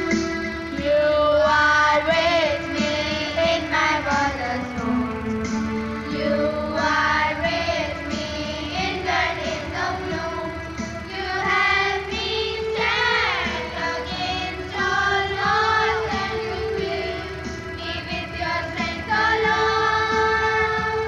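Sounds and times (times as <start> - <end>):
instrumental backing: 0.0 - 21.0.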